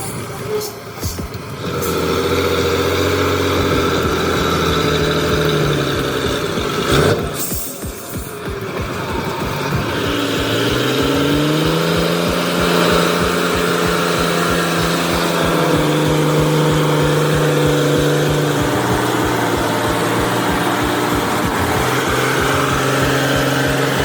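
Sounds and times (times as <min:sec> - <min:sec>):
heavy vehicle engine under load: 0:00.0 - 0:24.0.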